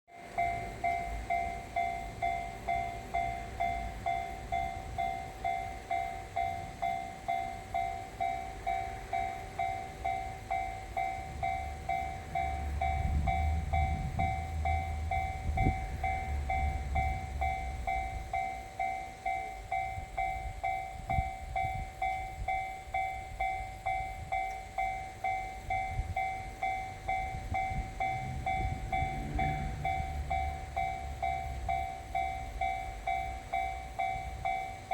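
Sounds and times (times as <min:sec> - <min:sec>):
level-crossing alarm dinging: 0:00.1 - 0:34.9
train rumbling past: 0:00.1 - 0:34.9.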